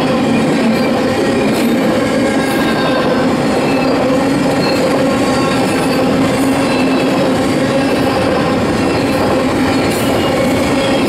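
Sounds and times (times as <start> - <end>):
train wheels rumbling on rail: 0.0 - 11.0
wheels squealing: 0.3 - 11.0.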